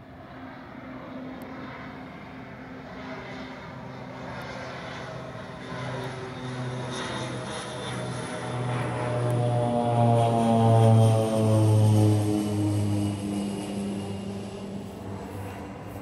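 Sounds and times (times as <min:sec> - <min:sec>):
airplane passing low overhead: 0:00.0 - 0:16.0.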